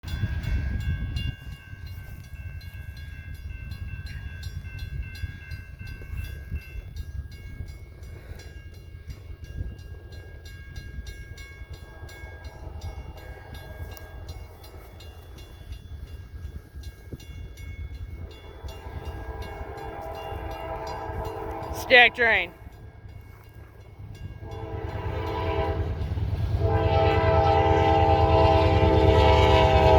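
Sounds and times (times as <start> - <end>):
freight train rumble: 0.0 - 29.9.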